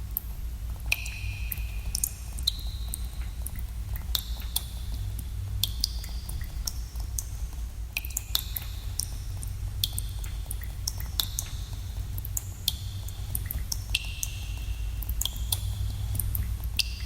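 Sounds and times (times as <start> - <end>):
water drops plinking in cave: 0.9 - 5.0, 5.6 - 17.0.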